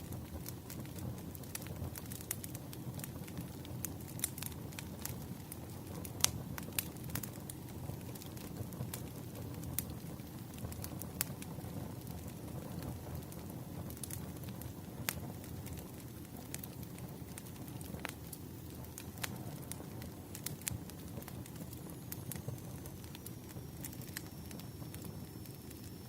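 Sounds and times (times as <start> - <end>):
low rumble of burning logs: 0.0 - 26.0
wood fire crackling: 0.0 - 26.0.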